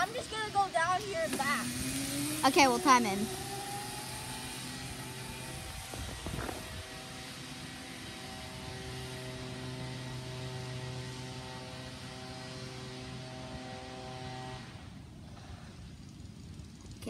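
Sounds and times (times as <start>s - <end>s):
dirt bike engine droning: 0.0s - 17.0s.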